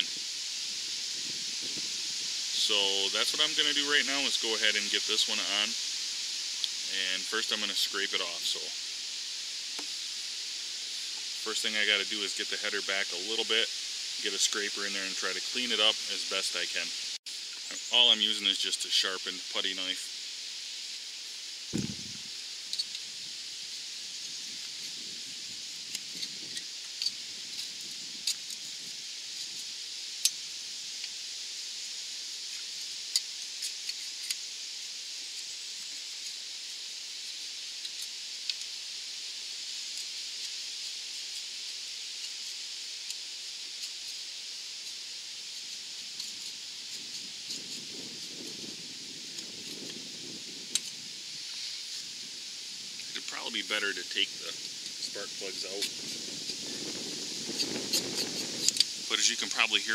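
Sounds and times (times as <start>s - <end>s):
wind through leaves: 0.0s - 59.9s.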